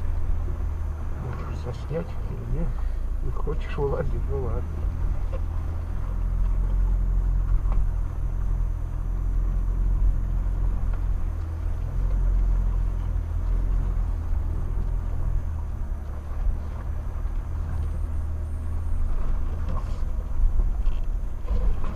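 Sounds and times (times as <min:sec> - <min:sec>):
car engine drone from cabin: 0:00.0 - 0:21.9.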